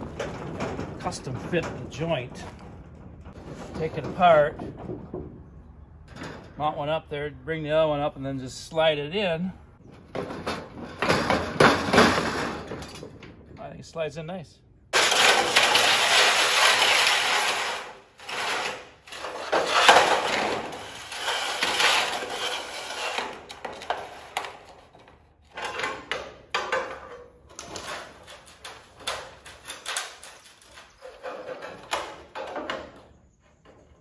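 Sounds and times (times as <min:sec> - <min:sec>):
metal gutter sections scraping: 0:00.0 - 0:14.2, 0:14.9 - 0:34.0.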